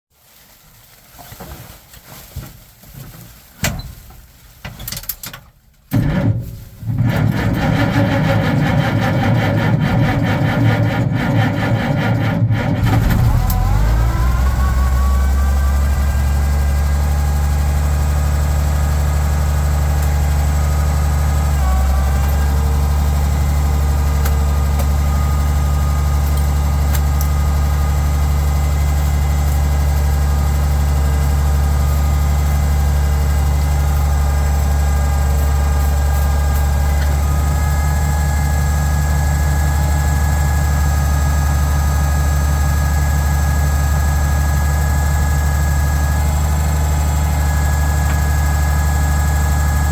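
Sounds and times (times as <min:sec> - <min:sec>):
tractor engine idling: 0:05.9 - 0:49.9.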